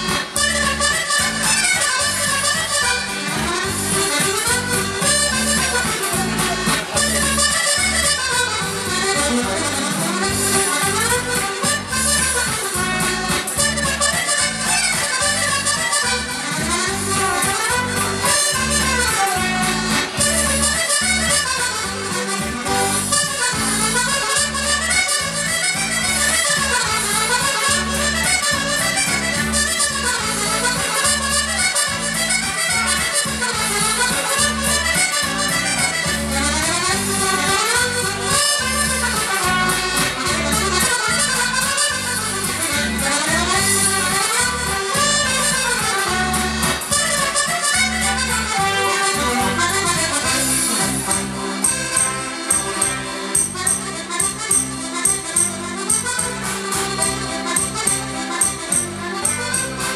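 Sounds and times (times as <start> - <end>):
accordion playing lively tune: 0.0 - 59.9.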